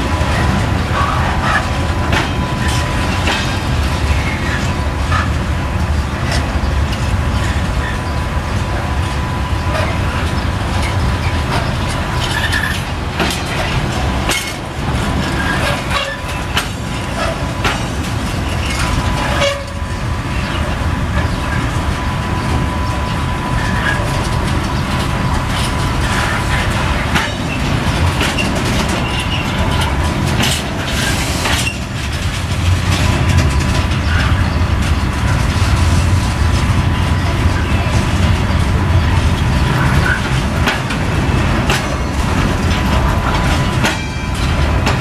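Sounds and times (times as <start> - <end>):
train wheels rumbling on rail: 0.0 - 45.0
wheels clicking over rail joints: 0.0 - 45.0.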